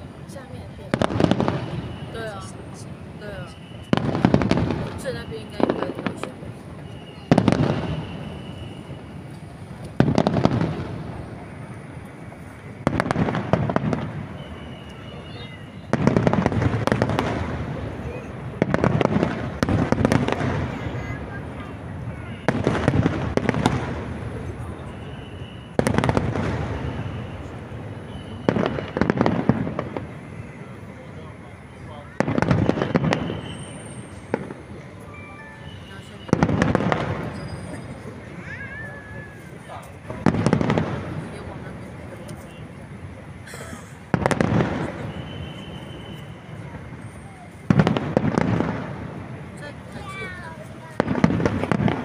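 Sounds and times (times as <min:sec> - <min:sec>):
fireworks bursting with bangs and crackles: 0:00.0 - 0:52.0.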